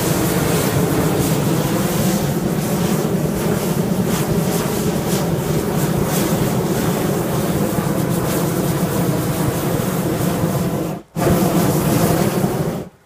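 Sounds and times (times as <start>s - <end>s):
propane burner roaring: 0.0s - 13.0s.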